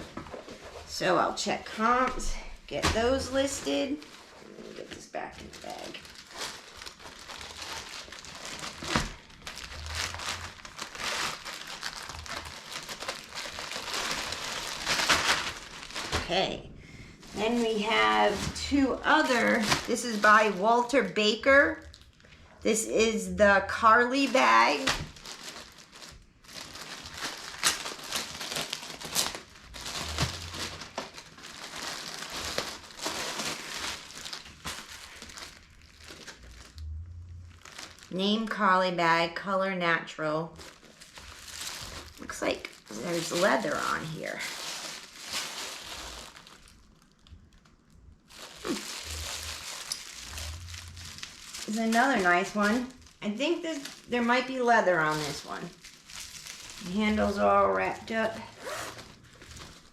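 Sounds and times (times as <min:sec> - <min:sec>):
packaging bag crinkling: 0:02.7 - 0:16.4, 0:17.2 - 0:22.4, 0:23.8 - 0:38.4, 0:40.5 - 0:59.9.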